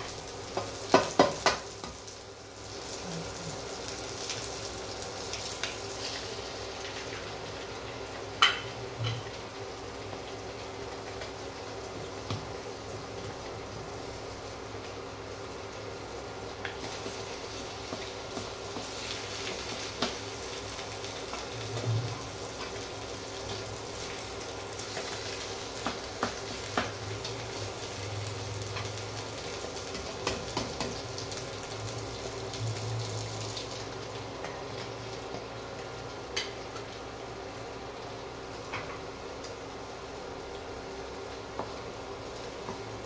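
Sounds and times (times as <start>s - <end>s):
paste sizzling in a wok: 0.0s - 13.1s, 13.7s - 35.6s.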